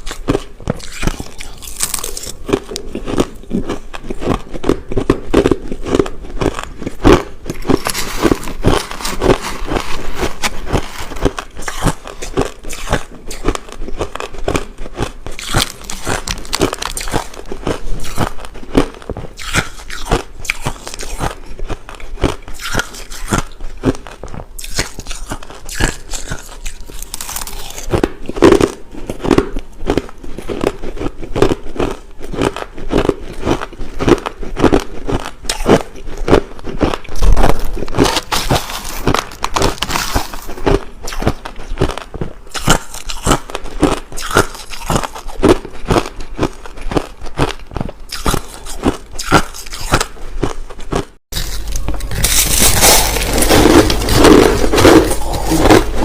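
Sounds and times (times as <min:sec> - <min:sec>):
crunching and chewing ice: 0:00.0 - 0:56.0.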